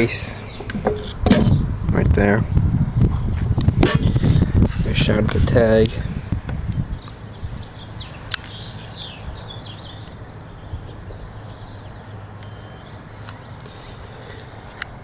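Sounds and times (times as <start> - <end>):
small birds chirping: 0.0 - 3.2, 5.1 - 14.9.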